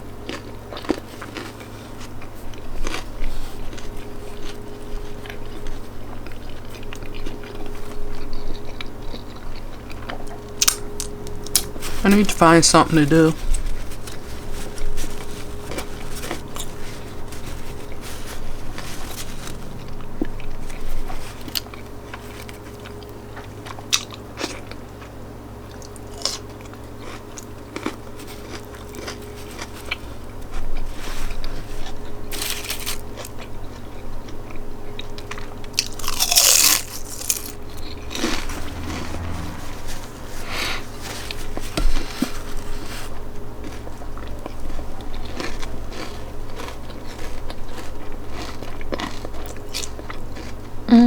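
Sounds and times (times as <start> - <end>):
chewing: 0.2 - 12.3, 13.4 - 51.0
sandwich crunching bites: 0.2 - 50.7.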